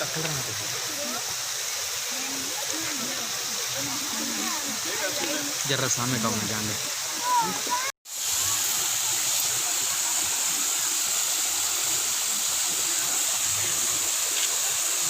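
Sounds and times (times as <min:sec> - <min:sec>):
water splashing from fountains: 0:00.0 - 0:15.0.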